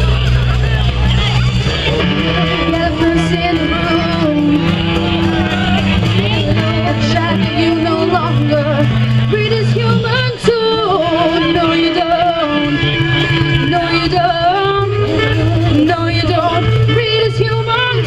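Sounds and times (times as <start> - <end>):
bass notes: 0.0 - 18.0
drums: 0.0 - 18.0.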